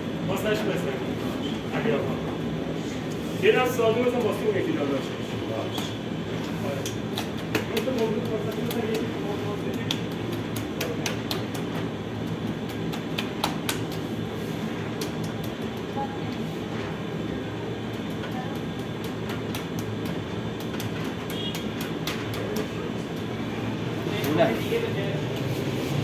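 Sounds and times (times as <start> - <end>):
oven machinery hum: 0.0 - 26.0
fingertips tapping dough: 3.5 - 24.6.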